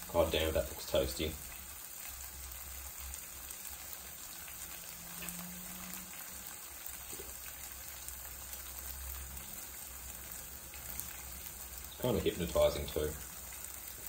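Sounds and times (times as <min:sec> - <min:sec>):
cheese frying in a pan: 0:00.0 - 0:14.0.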